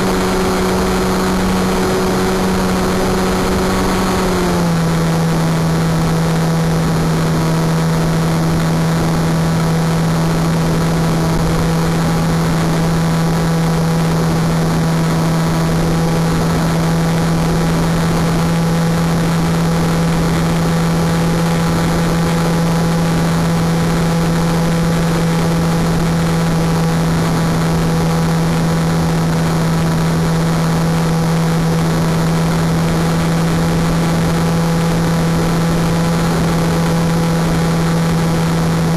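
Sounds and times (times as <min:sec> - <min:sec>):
model plane motor drone: 0:00.0 - 0:38.9.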